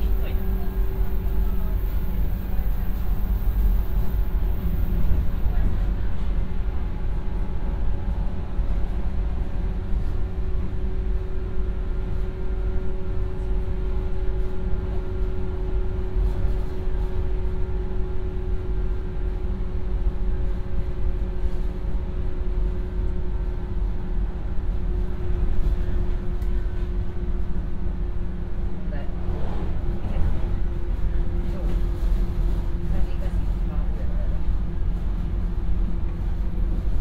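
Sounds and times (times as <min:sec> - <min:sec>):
steady train hum: 0:00.0 - 0:37.0.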